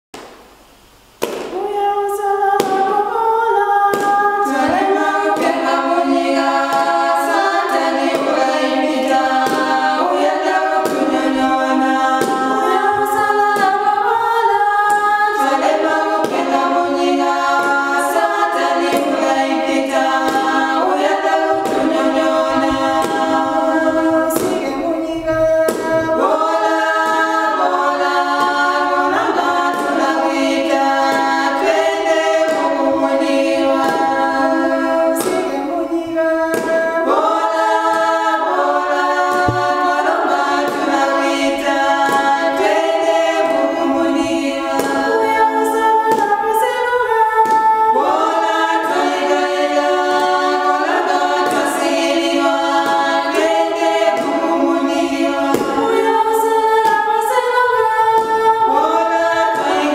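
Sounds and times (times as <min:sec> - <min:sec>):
women singing a cappella: 0:00.8 - 0:59.9.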